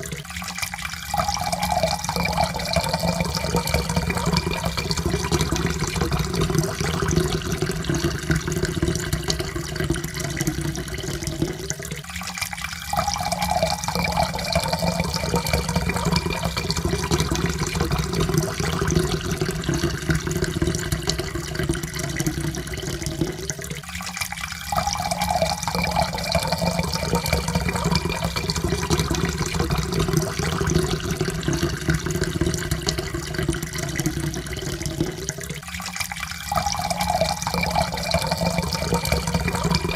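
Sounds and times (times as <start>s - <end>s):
water pouring into a cup: 0.0s - 39.9s.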